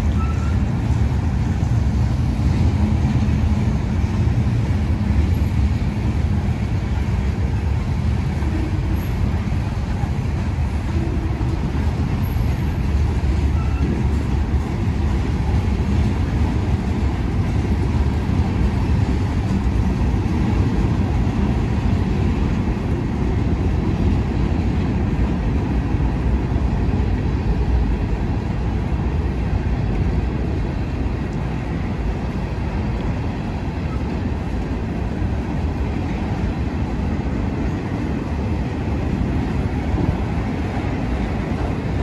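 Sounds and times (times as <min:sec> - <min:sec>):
freight train cars rumbling on rails: 0:00.0 - 0:42.0.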